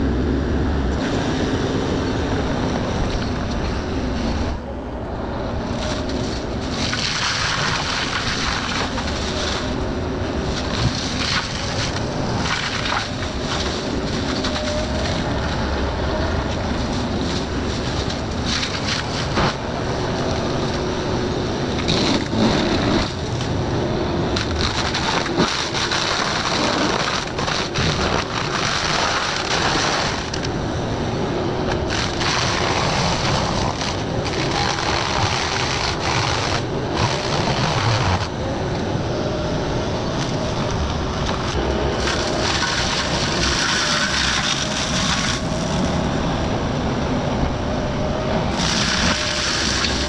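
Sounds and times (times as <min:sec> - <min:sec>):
engine under load: 0:00.0 - 0:50.0
mulcher grinding brush and wood: 0:05.6 - 0:30.6, 0:31.6 - 0:46.2, 0:48.4 - 0:50.0.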